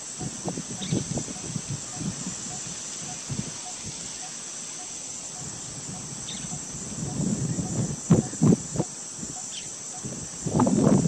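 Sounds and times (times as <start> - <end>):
insect chorus shrilling: 0.0 - 11.0.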